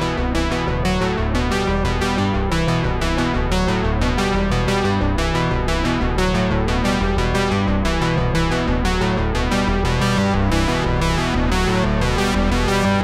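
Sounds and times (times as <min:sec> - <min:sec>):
synthesizer and electric piano music: 0:00.0 - 0:13.0.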